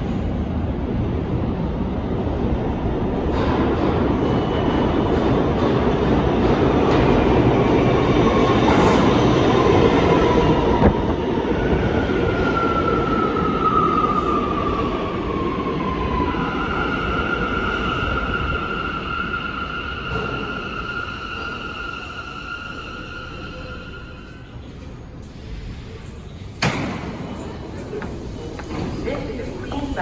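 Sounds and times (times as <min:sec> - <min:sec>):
subway train rumbling on tracks: 0:00.0 - 0:30.0.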